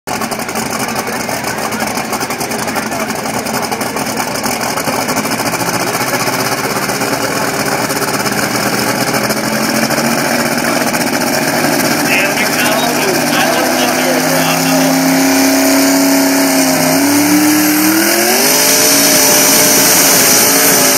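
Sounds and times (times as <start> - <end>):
truck engine idling: 0.1 - 20.9.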